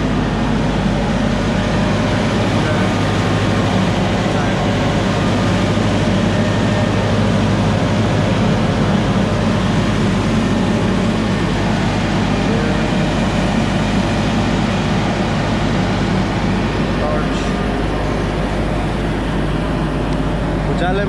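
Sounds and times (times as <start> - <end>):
constant low hum: 0.0 - 21.0.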